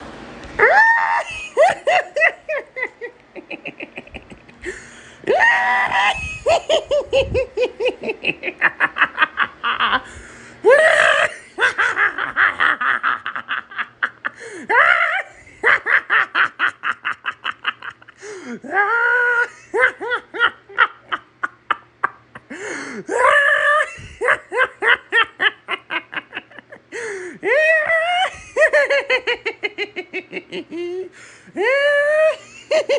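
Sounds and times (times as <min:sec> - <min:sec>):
high-pitched laughing: 0:00.6 - 0:32.9.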